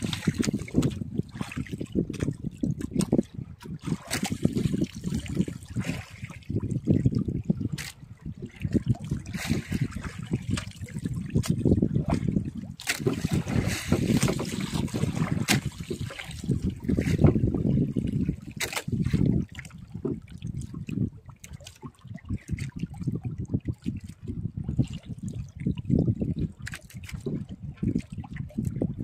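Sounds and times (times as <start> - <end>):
water lapping against boat hull: 0.0 - 29.0.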